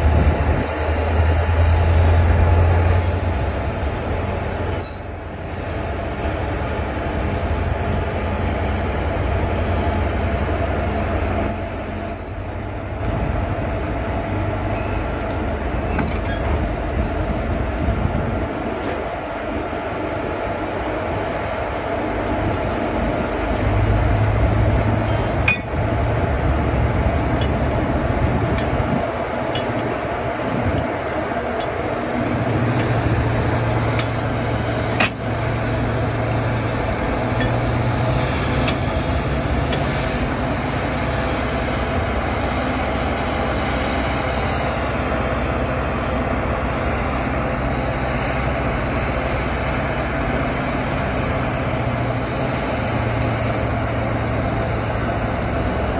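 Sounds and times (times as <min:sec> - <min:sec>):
electric locomotive humming: 0:00.0 - 0:55.9.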